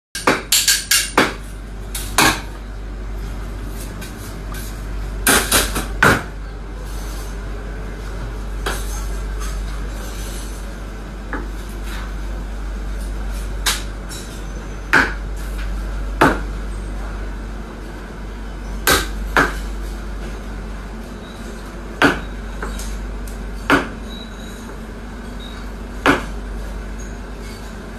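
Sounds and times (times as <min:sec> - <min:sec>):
steady low hum: 0:00.2 - 0:27.9.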